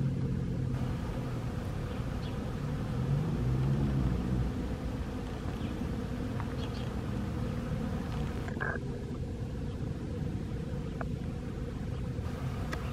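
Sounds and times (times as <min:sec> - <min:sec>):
bees buzzing: 0:00.0 - 0:12.9.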